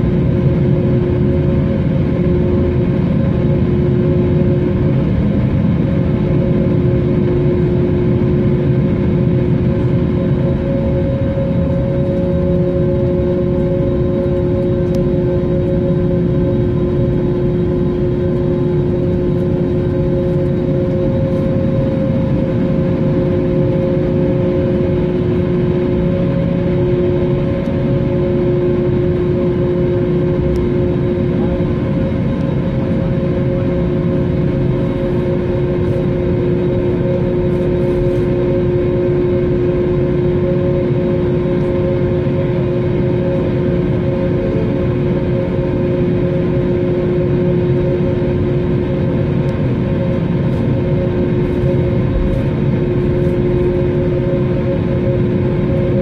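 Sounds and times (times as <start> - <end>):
humming tones: 0.0 - 56.0
jet engines idling: 0.0 - 56.0.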